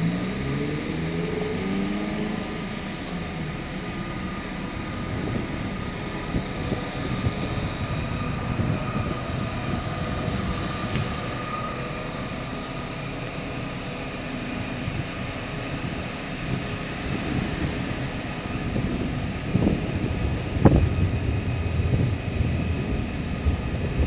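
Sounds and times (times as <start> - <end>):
engines humming: 0.0 - 24.0
wind rumbling on microphone: 0.0 - 24.0.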